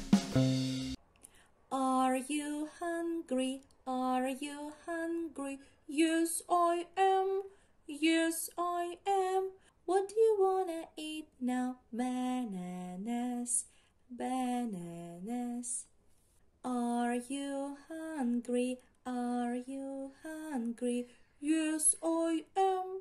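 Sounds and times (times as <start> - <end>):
woman singing unaccompanied: 1.7 - 15.9, 16.6 - 23.0.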